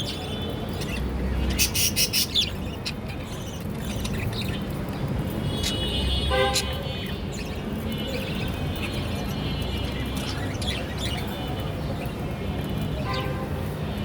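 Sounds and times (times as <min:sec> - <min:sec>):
parrots chirping and chattering: 0:00.0 - 0:13.6.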